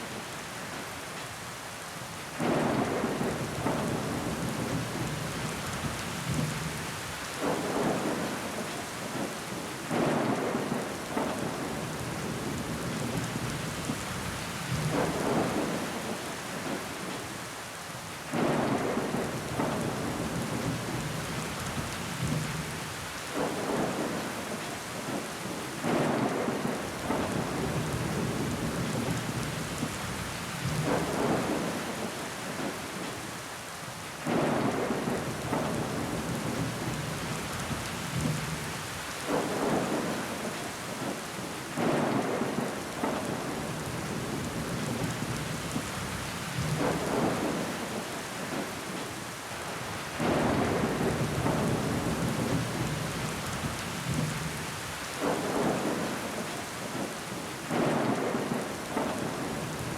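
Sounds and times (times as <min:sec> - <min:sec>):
rain on a window pane: 0:00.0 - 0:59.9.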